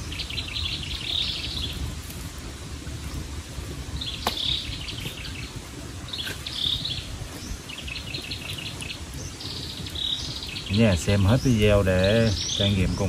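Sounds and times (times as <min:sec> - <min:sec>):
birds chirping: 0:00.0 - 0:13.0
low background rush: 0:00.0 - 0:13.0.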